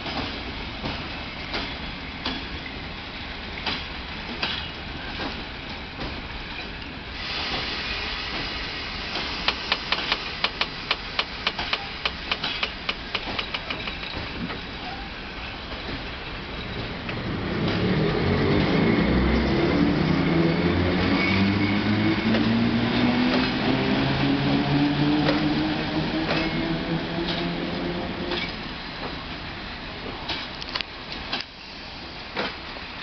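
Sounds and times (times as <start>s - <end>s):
train wheels clicking over rail joints: 0.0s - 19.6s, 21.9s - 33.0s.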